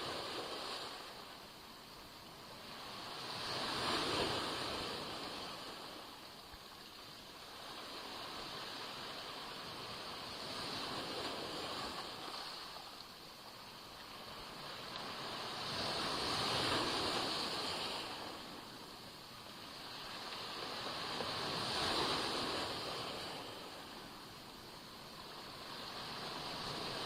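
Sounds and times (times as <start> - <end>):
waves breaking on shore: 0.0 - 27.0.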